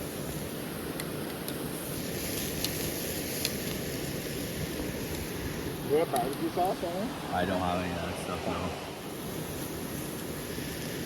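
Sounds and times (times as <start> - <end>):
fire popping: 0.0 - 7.3, 8.8 - 11.0.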